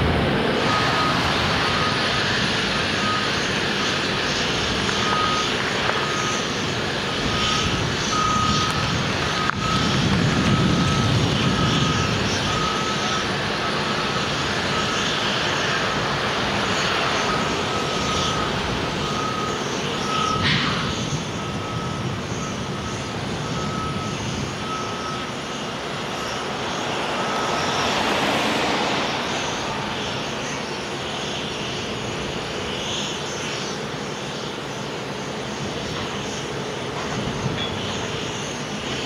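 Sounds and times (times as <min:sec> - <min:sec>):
construction machinery running: 0:00.0 - 0:39.0
reversing alarm beeping: 0:00.5 - 0:33.8.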